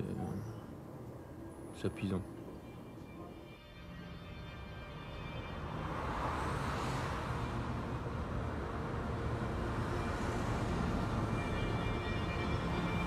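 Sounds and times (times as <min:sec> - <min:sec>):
rush of passing traffic: 0:00.0 - 0:13.0.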